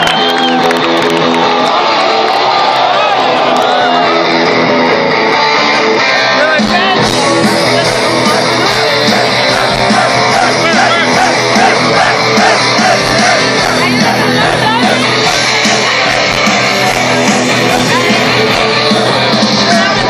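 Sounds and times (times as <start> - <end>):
fans yelling and singing along: 0.0 - 20.0
rock band playing live: 0.0 - 20.0.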